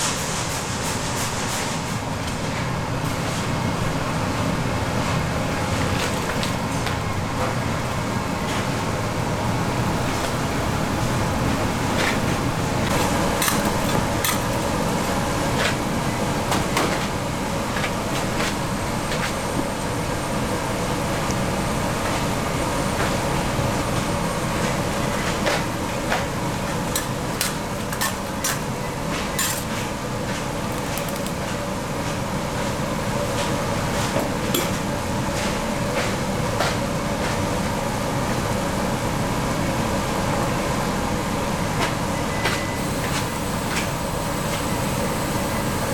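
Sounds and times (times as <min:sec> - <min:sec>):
factory machinery droning: 0:00.0 - 0:30.7, 0:31.3 - 0:45.9.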